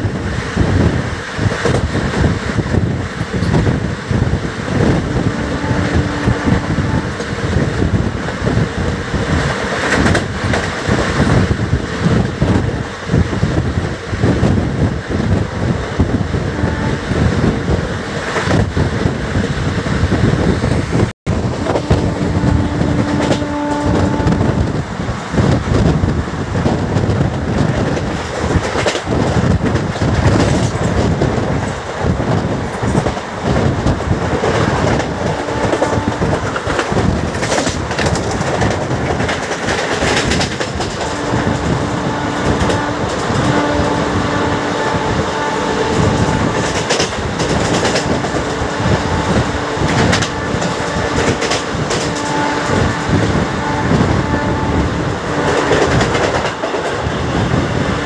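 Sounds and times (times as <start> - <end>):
train rumble: 0.0 - 58.0
train wheels clattering: 0.1 - 13.6, 21.4 - 58.0.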